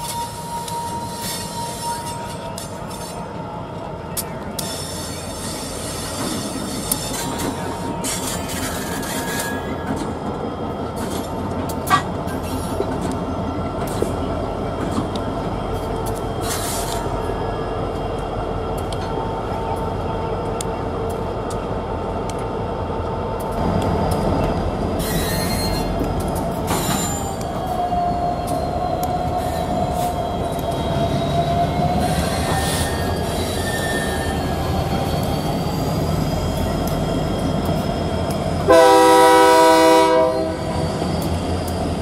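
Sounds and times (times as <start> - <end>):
diesel locomotive engines running: 0.0 - 42.0.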